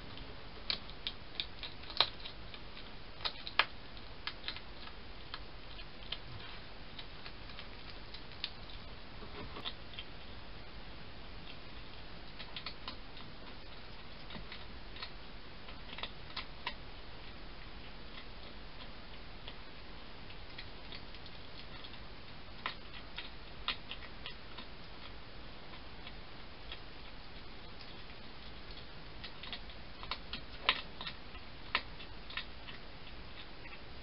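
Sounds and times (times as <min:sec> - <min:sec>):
hedgehog crunching food: 0:00.0 - 0:34.0.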